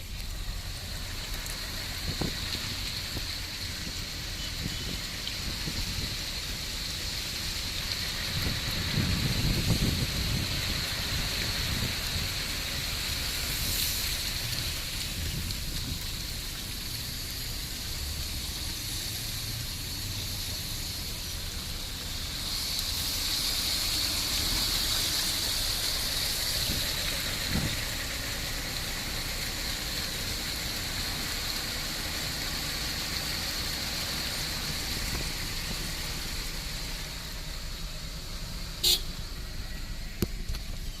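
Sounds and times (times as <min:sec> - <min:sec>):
heavy rain falling: 0:00.0 - 0:41.0
traffic swishing on wet road: 0:00.0 - 0:41.0.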